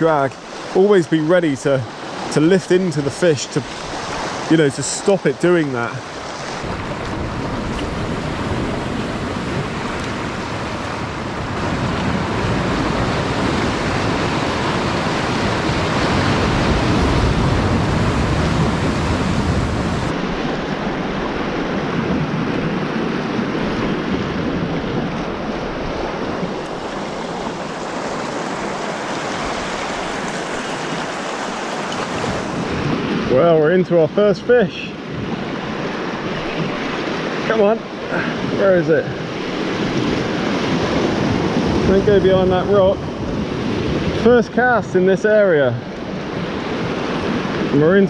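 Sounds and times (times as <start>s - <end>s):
waves breaking on rocks: 0.0s - 48.0s.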